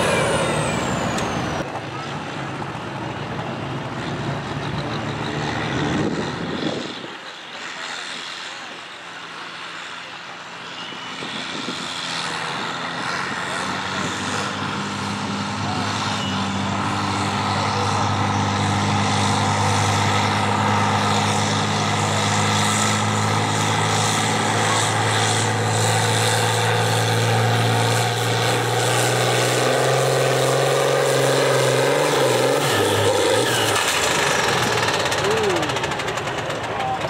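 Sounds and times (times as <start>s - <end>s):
high engine whine: 0.0s - 37.0s
tractor diesel engine under load: 0.0s - 37.0s.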